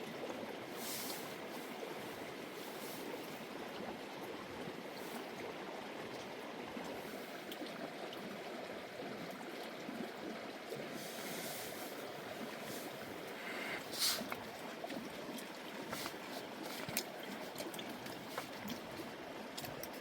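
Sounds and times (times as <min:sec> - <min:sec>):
steady rushing water-like noise: 0:00.0 - 0:20.0.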